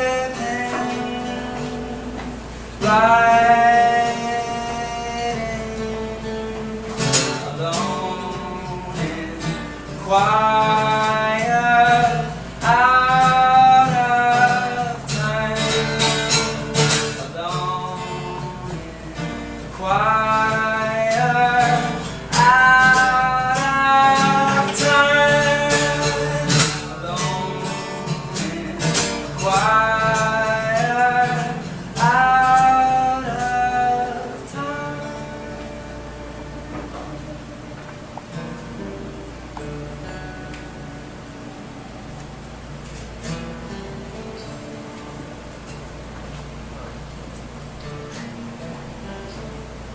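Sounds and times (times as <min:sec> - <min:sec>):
man singing without words: 0:00.0 - 0:40.2
acoustic guitar strumming: 0:00.0 - 0:49.9.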